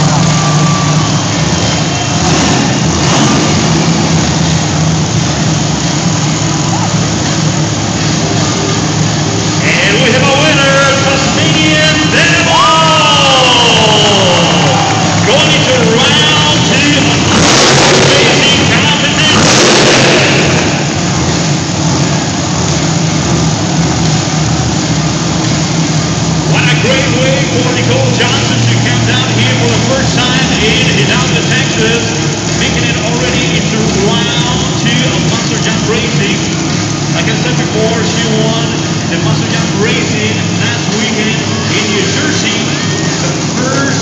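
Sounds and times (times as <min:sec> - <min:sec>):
truck engine idling loudly: 0:00.0 - 0:44.0.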